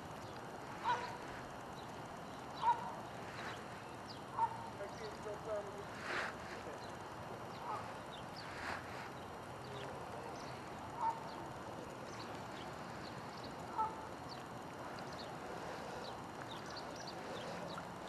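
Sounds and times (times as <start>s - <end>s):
background hiss: 0.0s - 18.0s
birds chirping: 0.0s - 18.0s
loud bird calls: 0.2s - 18.0s.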